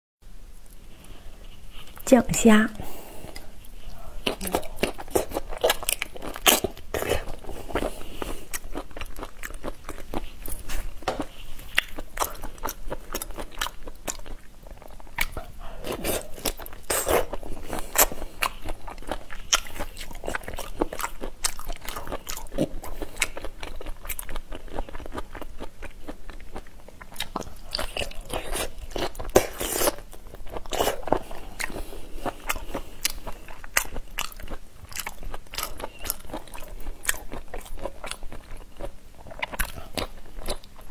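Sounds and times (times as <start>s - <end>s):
crunching and chewing shrimp: 3.3s - 40.9s.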